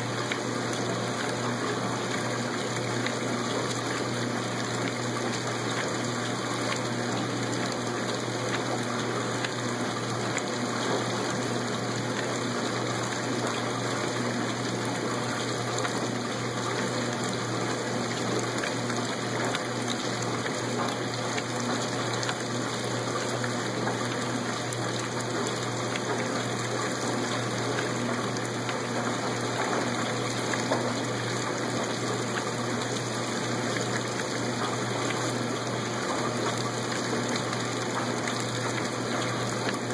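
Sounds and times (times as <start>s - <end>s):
washing machine motor hum: 0.0s - 39.9s
water churning and sloshing: 0.0s - 39.9s.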